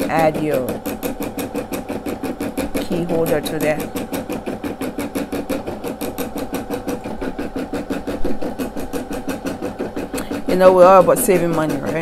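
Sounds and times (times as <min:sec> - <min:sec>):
embroidery machine stitching: 0:00.0 - 0:12.0.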